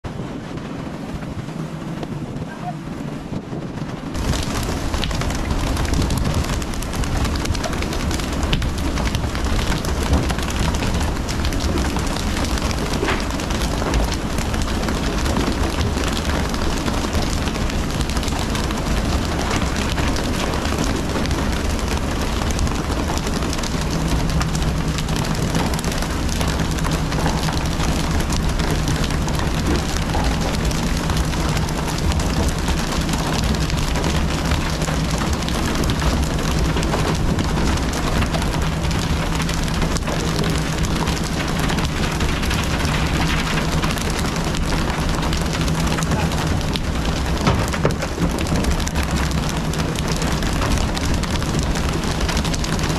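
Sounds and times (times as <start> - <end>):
boat engine humming: 0.0 - 52.9
water splashing along hull: 0.0 - 52.9.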